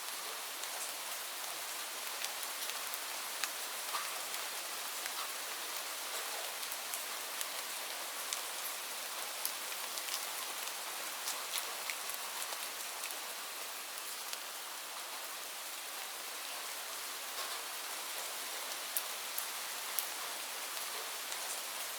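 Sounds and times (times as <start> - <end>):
steady rain hiss: 0.0 - 21.9
raindrops ticking on surface: 0.1 - 15.8, 16.5 - 21.9.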